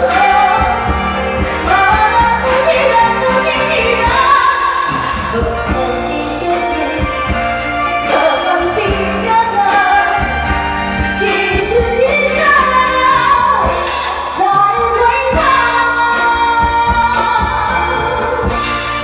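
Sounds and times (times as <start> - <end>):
backing music with steady beat: 0.0 - 19.0
person singing pop ballad: 0.0 - 19.0.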